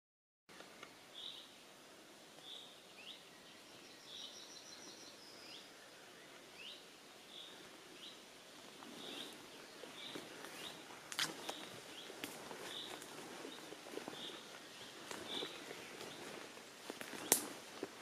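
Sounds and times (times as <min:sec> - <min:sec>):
songbirds chirping: 0:00.5 - 0:18.0.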